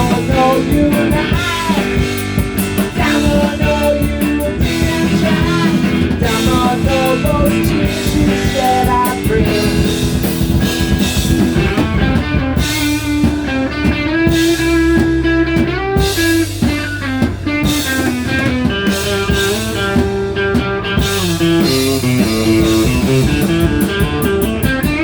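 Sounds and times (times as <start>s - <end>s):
drum kit: 0.0s - 25.0s
rock guitar lines: 0.0s - 25.0s.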